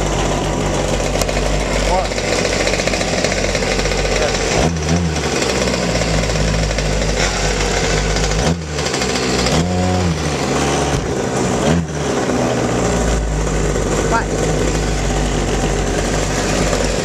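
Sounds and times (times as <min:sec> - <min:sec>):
scooter engines revving: 0:00.0 - 0:17.0.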